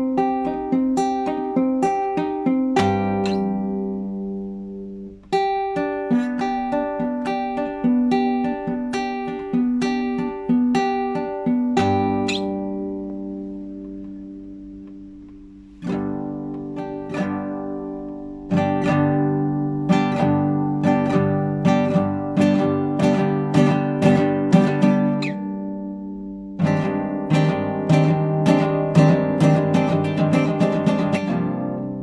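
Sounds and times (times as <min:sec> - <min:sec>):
classical guitar plucking: 0:00.0 - 0:32.0.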